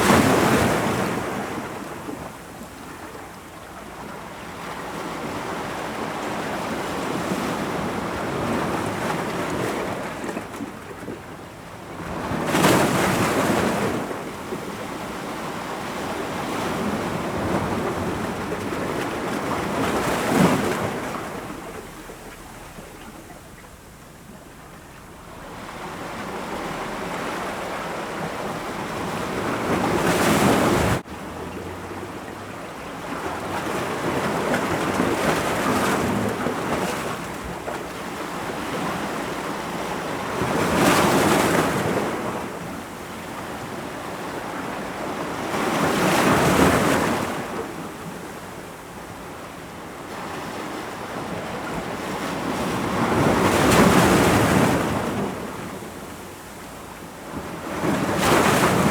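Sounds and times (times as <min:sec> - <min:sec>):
ocean waves breaking on rocks: 0:04.6 - 0:58.9.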